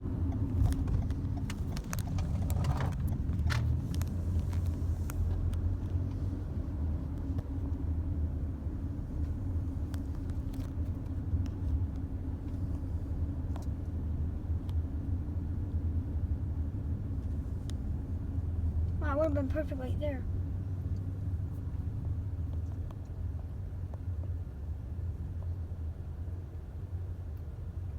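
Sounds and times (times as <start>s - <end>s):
truck engine rumbling: 0.0s - 27.8s.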